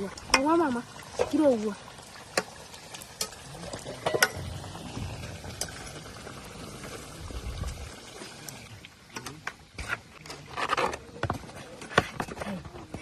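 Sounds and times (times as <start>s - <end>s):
cooking hiss with stirring: 0.0s - 13.0s.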